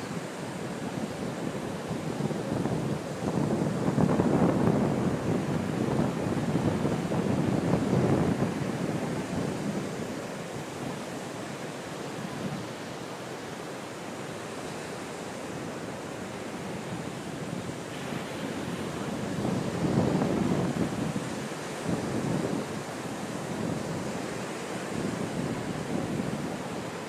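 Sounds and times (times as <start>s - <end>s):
wind buffeting microphone: 0.0s - 12.9s, 15.5s - 27.0s
ocean surf breaking on beach: 0.0s - 27.0s.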